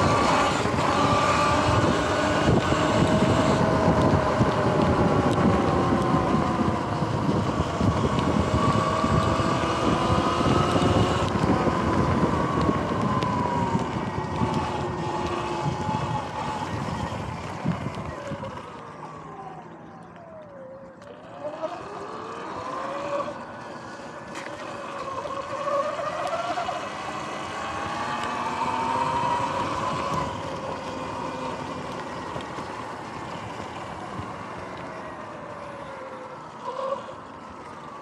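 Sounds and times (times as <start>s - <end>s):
wind noise: 0.0s - 19.5s, 25.1s - 36.4s
electric motorbike motor whining: 0.0s - 38.0s.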